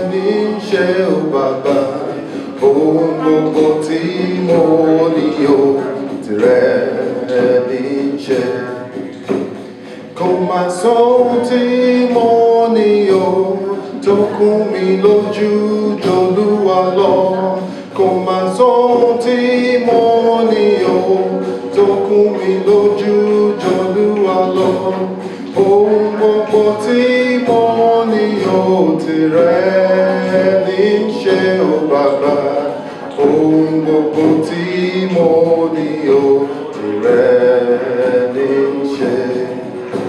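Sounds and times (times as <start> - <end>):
people singing a cappella: 0.0 - 40.0.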